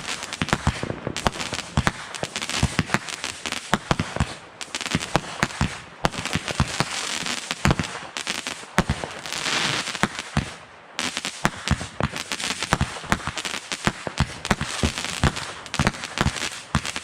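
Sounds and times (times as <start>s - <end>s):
firecrackers bangs and pops: 0.0s - 17.0s.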